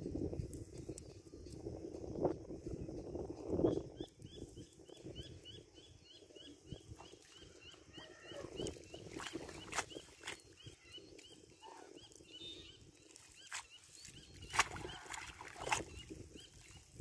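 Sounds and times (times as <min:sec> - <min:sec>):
bird chirping: 0:02.9 - 0:17.0.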